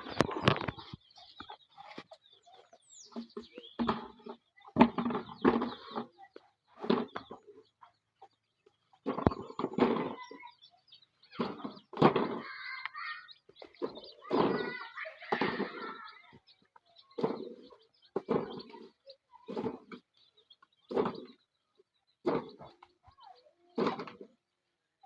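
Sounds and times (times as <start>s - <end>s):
chickens clucking: 0.0s - 24.8s.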